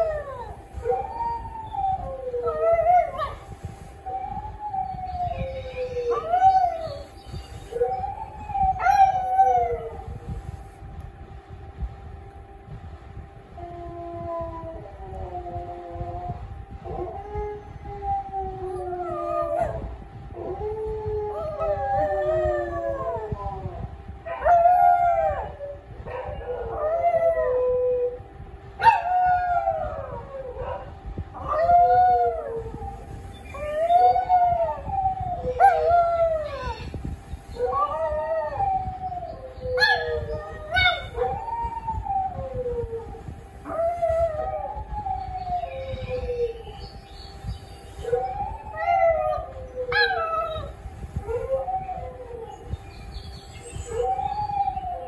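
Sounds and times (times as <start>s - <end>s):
dog howling: 0.0s - 10.2s, 13.7s - 28.2s, 28.8s - 47.1s, 48.0s - 55.0s.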